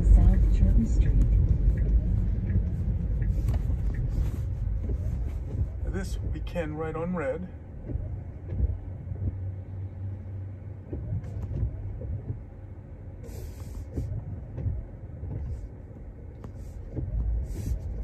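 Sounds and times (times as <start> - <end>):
road and traffic rumble: 0.0 - 18.0.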